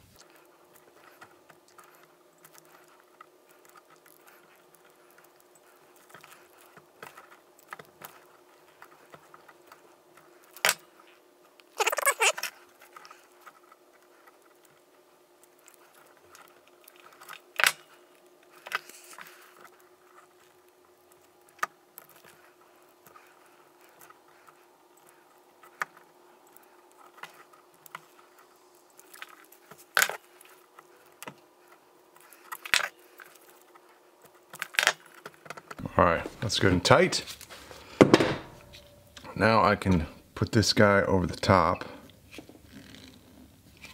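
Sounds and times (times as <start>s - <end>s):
wires being handled: 0.0s - 39.3s
faint steady hum: 0.0s - 43.9s.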